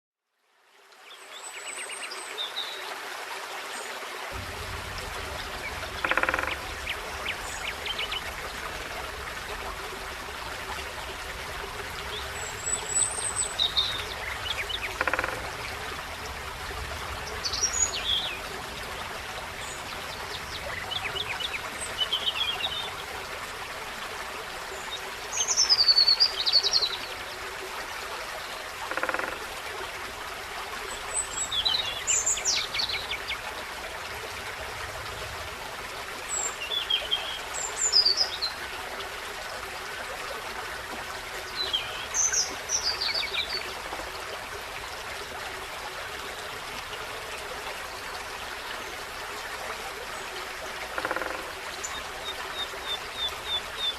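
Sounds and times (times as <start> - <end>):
stream trickling: 0.3 - 53.9.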